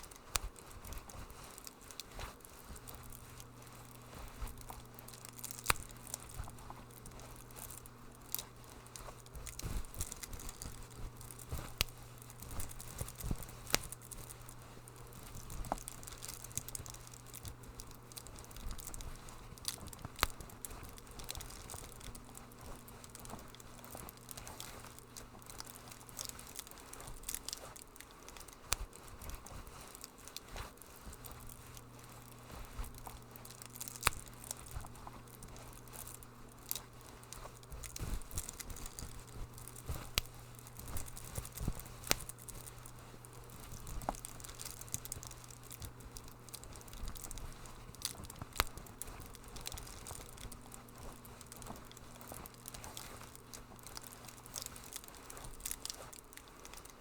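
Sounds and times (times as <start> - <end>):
low steady hum: 0.0 - 57.0
wood fire crackling: 0.0 - 57.0.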